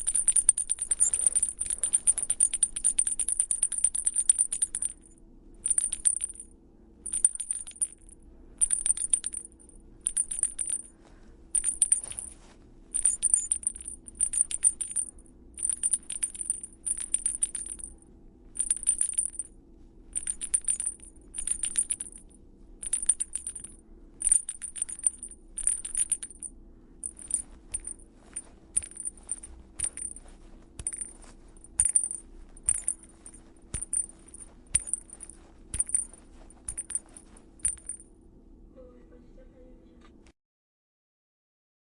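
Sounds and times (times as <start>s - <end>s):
toy bell jingling: 0.0s - 6.4s, 7.1s - 10.9s, 11.6s - 17.9s, 18.6s - 19.5s, 20.2s - 22.2s, 22.8s - 38.0s.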